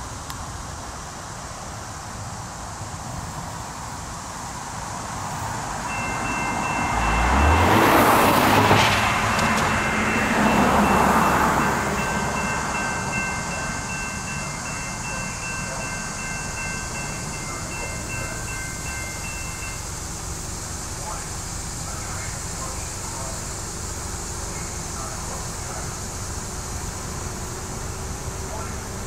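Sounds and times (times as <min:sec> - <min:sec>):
train passing: 0:00.0 - 0:29.0
crossing warning bell ringing: 0:05.4 - 0:29.0.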